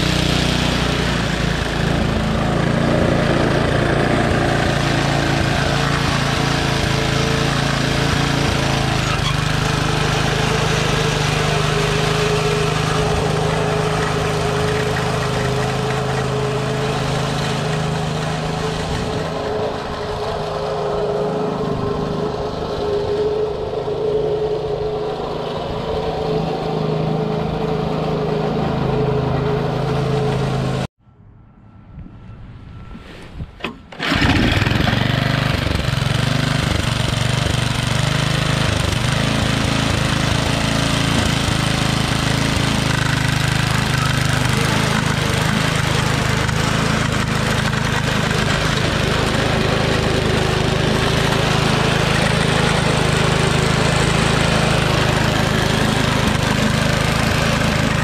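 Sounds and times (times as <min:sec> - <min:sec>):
mower engine running: 0:00.0 - 0:30.9, 0:33.6 - 0:58.0.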